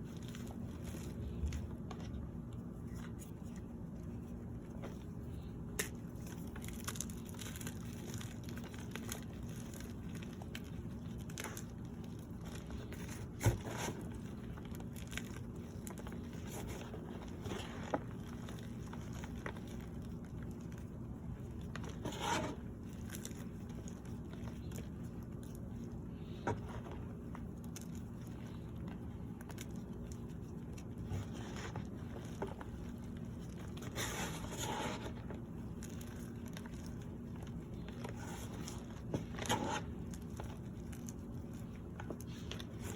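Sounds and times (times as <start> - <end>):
cornstarch crushing and crackling: 0.0 - 42.9
steady low hum: 0.0 - 42.9.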